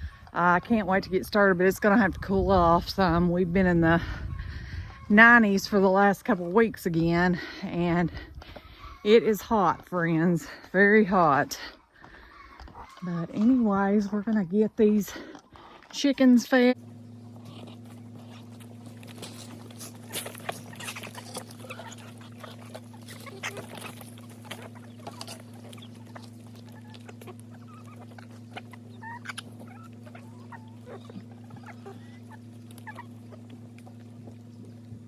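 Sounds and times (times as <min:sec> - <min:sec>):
chickens clucking: 0:00.0 - 0:35.0
steady low hum: 0:00.0 - 0:35.0.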